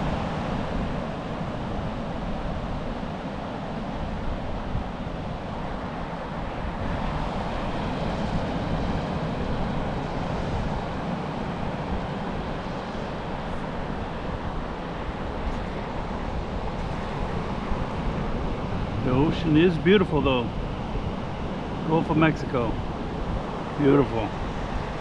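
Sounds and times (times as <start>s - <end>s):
surf washing on beach: 0.0s - 25.0s
wind buffeting microphone: 0.0s - 25.0s.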